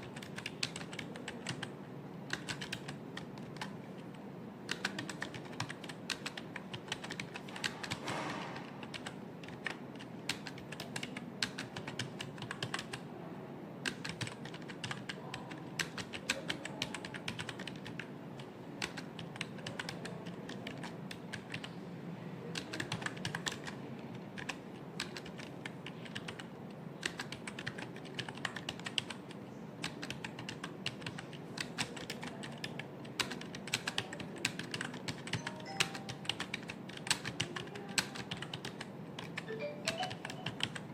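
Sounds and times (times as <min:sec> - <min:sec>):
typing on computer keyboard: 0:00.0 - 0:01.7, 0:02.3 - 0:04.1, 0:04.7 - 0:13.0, 0:13.8 - 0:21.8, 0:22.5 - 0:40.9.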